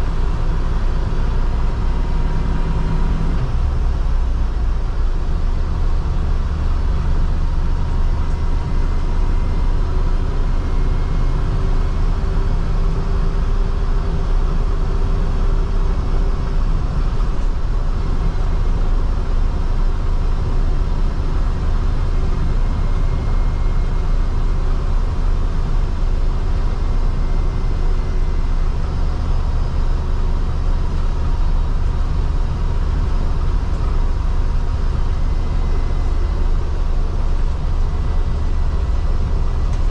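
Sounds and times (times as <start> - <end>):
car engine drone in cabin: 0.0 - 39.9.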